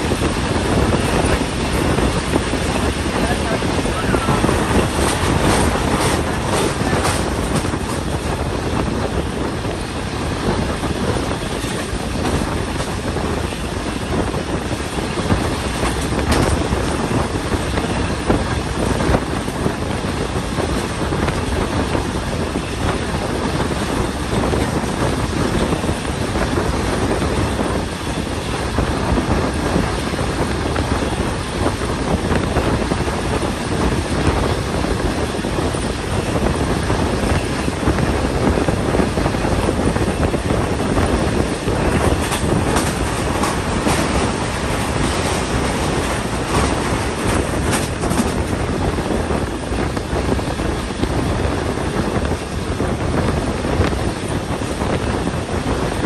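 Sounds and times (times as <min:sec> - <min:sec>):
sharp clicks of train wheels: 0:00.0 - 0:56.0
train wheels rumbling on rails: 0:00.0 - 0:56.0.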